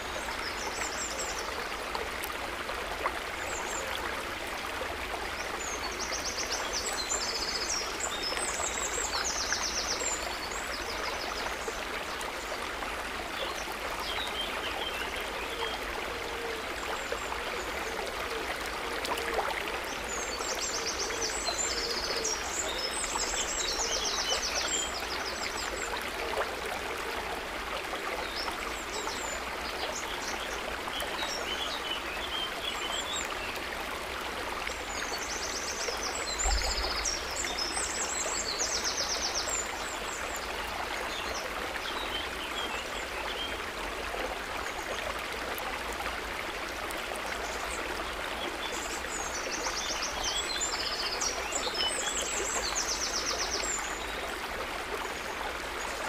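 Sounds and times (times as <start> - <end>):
water trickling and babbling: 0.0 - 56.0.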